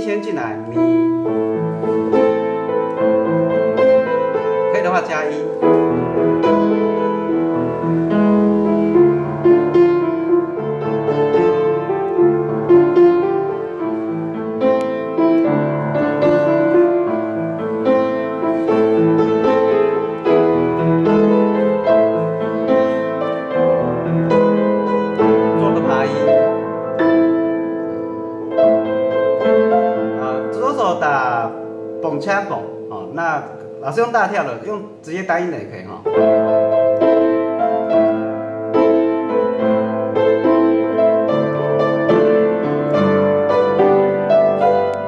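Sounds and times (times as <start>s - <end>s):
piano melody with accompaniment: 0.0s - 45.0s.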